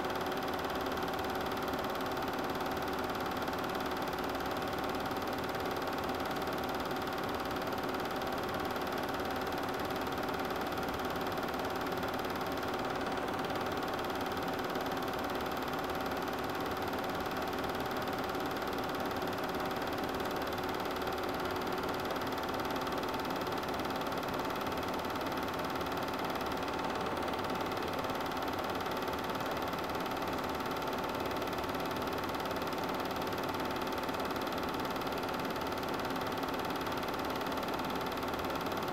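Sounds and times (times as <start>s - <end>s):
film projector humming: 0.0s - 38.9s.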